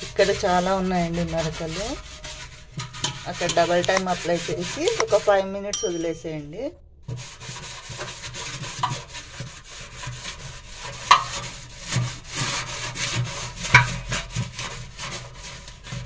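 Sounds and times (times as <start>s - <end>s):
scrubbing stainless steel sink: 0.0s - 6.2s, 7.0s - 16.0s.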